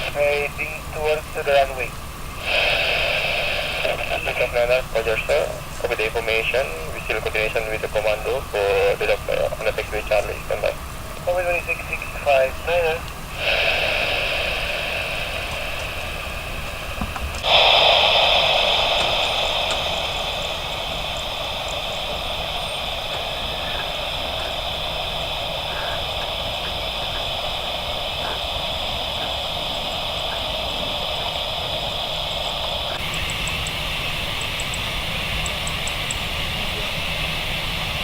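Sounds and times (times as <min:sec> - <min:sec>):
radio static hiss: 0:00.0 - 0:38.0.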